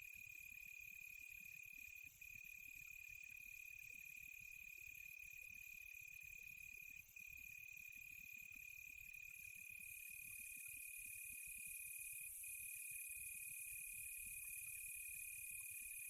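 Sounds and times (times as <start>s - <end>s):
hissy insect layer: 0.0s - 16.0s.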